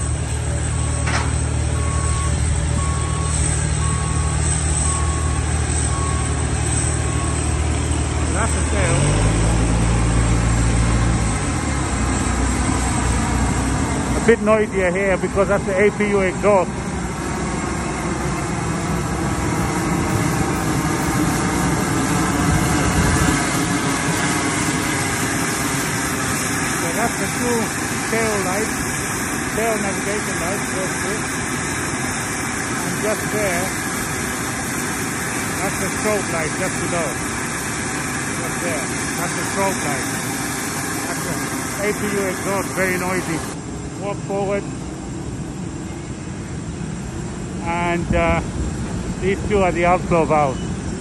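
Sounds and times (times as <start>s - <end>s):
reversing beeper: 0.0s - 13.4s, 14.1s - 37.3s, 41.0s - 45.0s, 50.0s - 51.0s
auxiliary power unit drone and whine: 0.0s - 51.0s.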